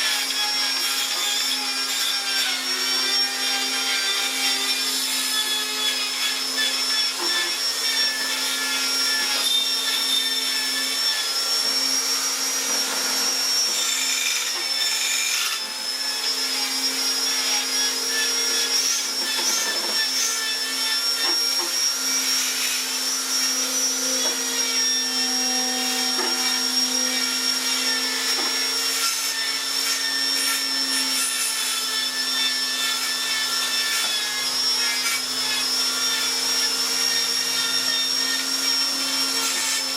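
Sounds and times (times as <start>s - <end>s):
electric power tool whining: 0.0s - 39.9s.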